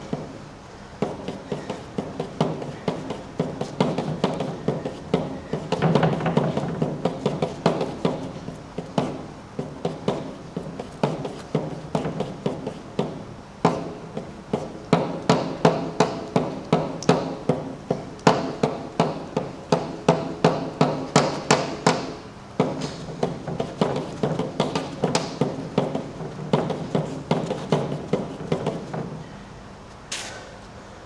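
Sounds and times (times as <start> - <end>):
tool tapping paper on wall: 0.0 - 0.4, 1.0 - 29.2
steady low hum: 0.0 - 31.0.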